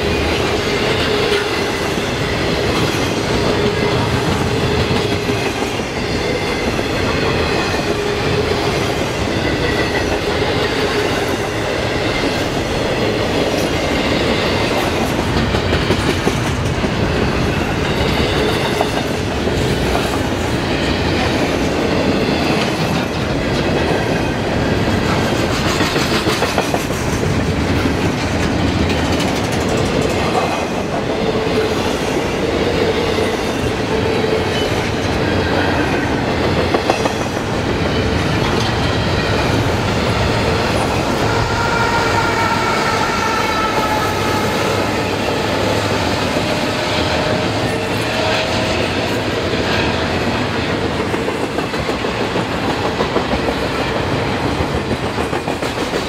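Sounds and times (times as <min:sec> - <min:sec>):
freight train rumbling past: 0:00.0 - 0:56.0
wheels clacking on rails: 0:00.0 - 0:56.0.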